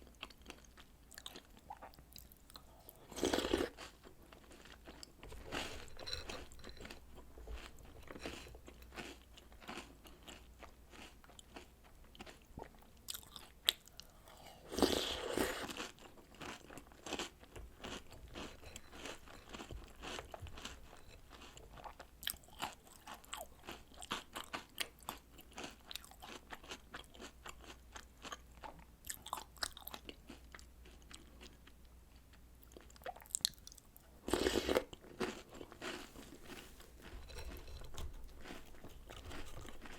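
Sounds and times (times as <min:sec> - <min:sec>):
crunching and chewing cereal: 0:00.0 - 0:39.9.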